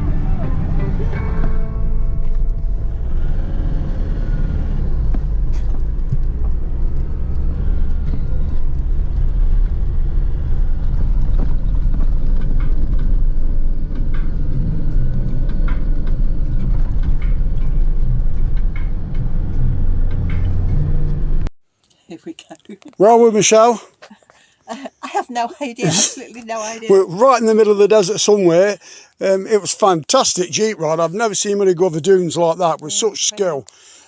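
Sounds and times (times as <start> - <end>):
engine and road rumble: 0.0 - 21.5, 25.6 - 34.0.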